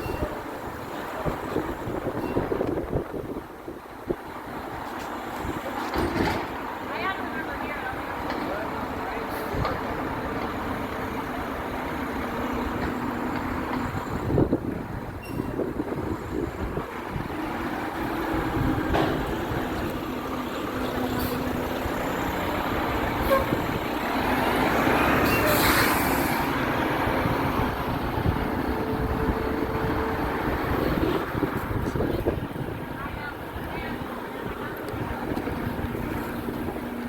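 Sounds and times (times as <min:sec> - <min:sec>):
garbage truck diesel engine: 0:00.0 - 0:37.0.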